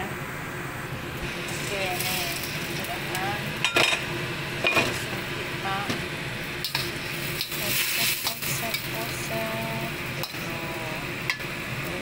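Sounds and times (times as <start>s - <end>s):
liquid sizzling: 1.0s - 12.0s.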